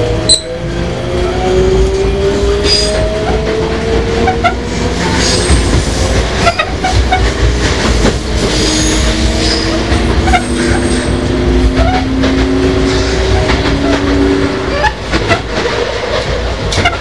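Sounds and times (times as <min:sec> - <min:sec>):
wheels rumbling on rail: 0:00.0 - 0:17.0
rail joint clicks: 0:00.2 - 0:17.0.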